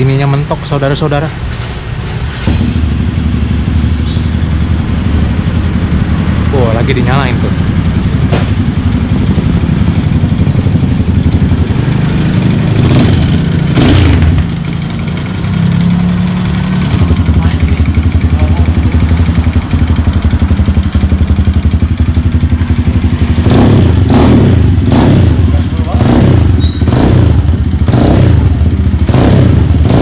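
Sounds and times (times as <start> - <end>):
motorcycle engine running: 1.9 - 30.0.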